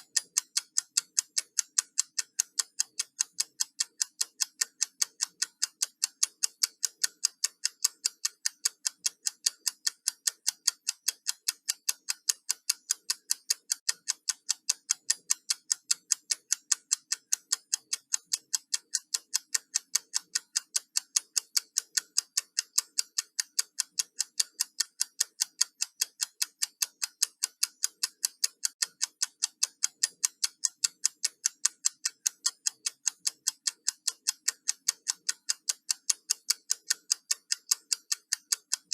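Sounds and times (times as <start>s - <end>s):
timer ticking: 0.0s - 38.9s.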